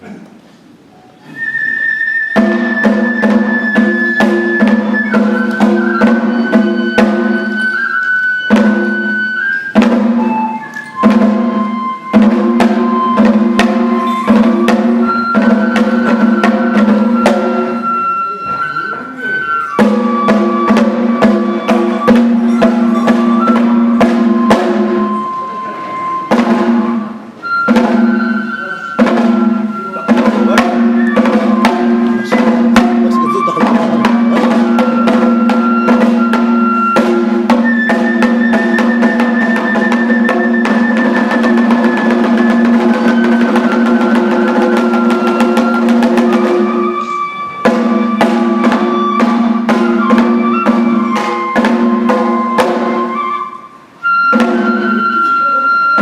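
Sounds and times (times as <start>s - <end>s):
bamboo flute melody: 0.9s - 56.0s
rapid taiko drum strokes: 2.3s - 18.7s, 19.7s - 25.3s, 26.0s - 53.2s.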